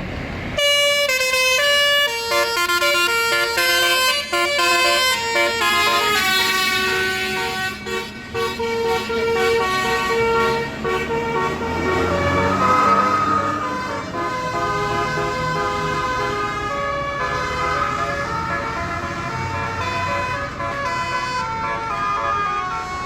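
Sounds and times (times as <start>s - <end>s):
musical bus horn playing tune: 0.6s - 23.0s.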